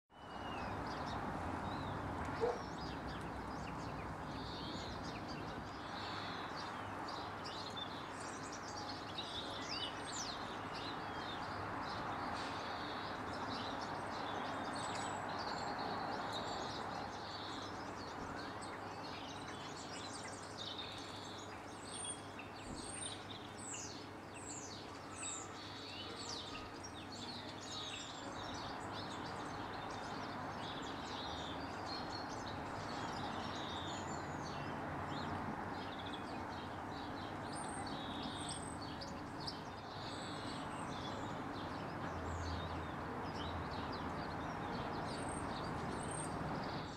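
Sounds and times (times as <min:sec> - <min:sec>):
birds chirping: 0:00.1 - 0:46.9.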